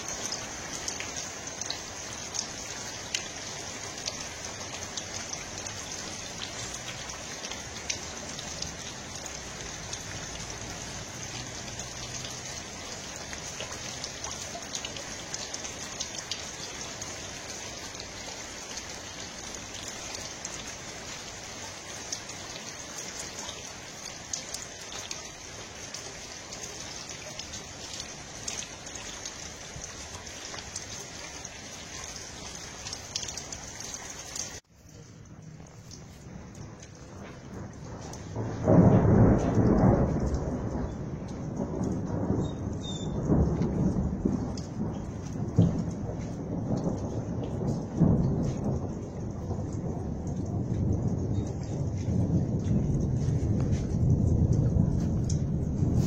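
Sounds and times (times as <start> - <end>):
rain-like hiss: 0.0 - 56.0.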